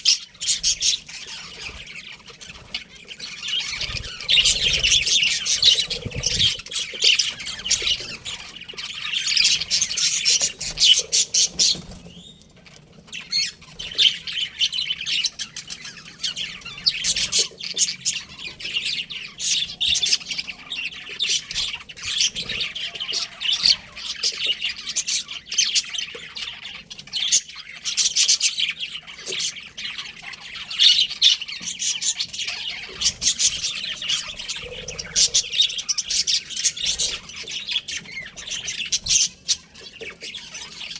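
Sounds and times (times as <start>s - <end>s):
budgerigars chirping and chattering: 0.0s - 40.9s.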